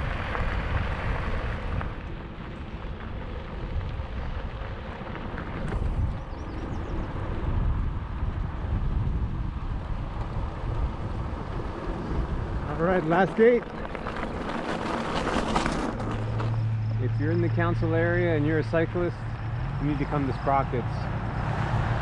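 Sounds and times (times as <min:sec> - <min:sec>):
tyres rolling on gravel: 0:00.0 - 0:22.0
wind buffeting microphone: 0:00.0 - 0:22.0.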